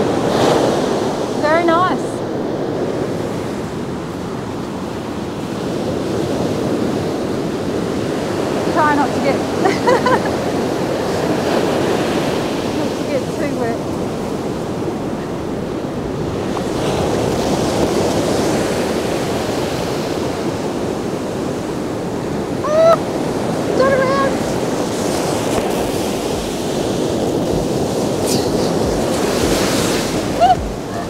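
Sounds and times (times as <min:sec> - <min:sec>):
ocean surf breaking: 0:00.0 - 0:31.0
wind on microphone: 0:00.0 - 0:31.0.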